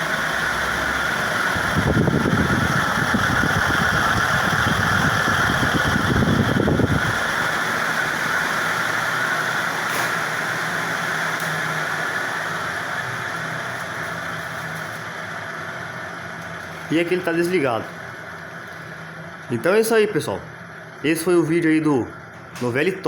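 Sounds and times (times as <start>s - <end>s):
ceiling fan with noisy bearings: 0.0s - 23.0s
rush of fan blades: 0.0s - 23.0s.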